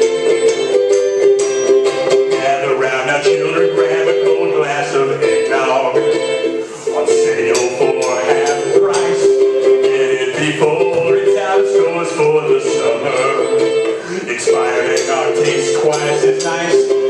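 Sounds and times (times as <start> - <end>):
person singing: 0.0 - 1.1, 1.7 - 17.0
ukulele strumming: 0.0 - 17.0.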